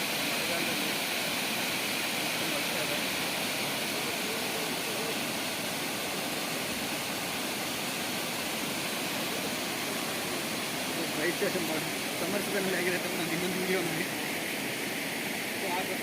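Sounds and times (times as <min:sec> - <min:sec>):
water pouring over dam: 0:00.0 - 0:16.0.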